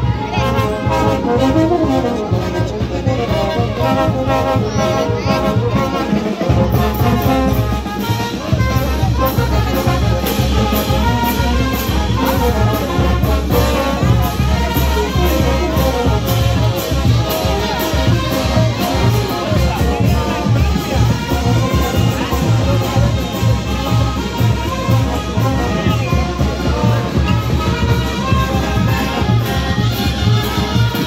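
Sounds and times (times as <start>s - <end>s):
brass band playing march: 0.0s - 31.0s.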